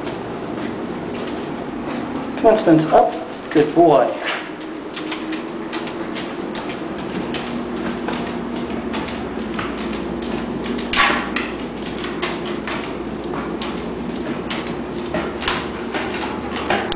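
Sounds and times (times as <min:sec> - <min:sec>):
steady low hum: 0:00.0 - 0:16.9
dog claws clicking on stairs: 0:01.1 - 0:16.9.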